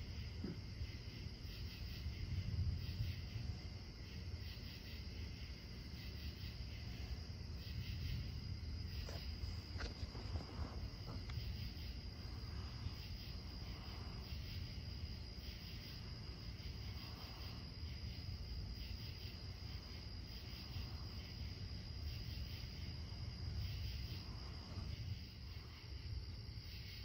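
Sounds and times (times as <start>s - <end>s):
low steady rumble: 0.0s - 26.6s
crickets chirping: 0.0s - 27.0s
high thin insect drone: 0.0s - 27.0s.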